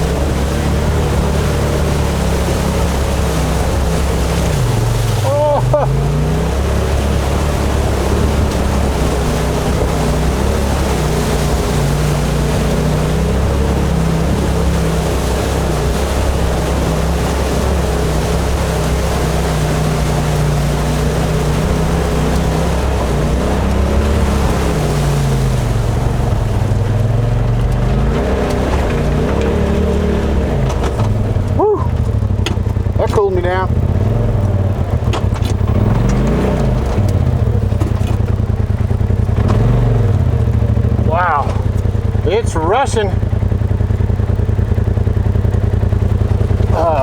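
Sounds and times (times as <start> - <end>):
vehicle engine running: 0.0 - 47.0
water splashing: 0.0 - 47.0.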